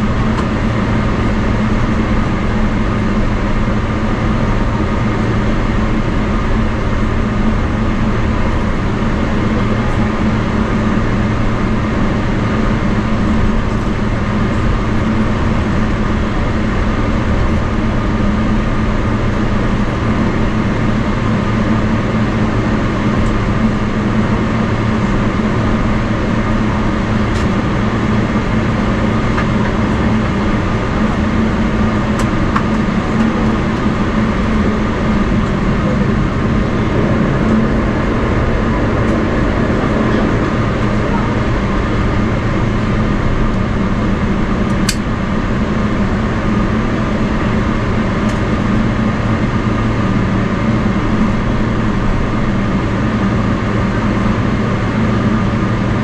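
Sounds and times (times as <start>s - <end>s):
jet engines idling hum: 0.0s - 56.0s.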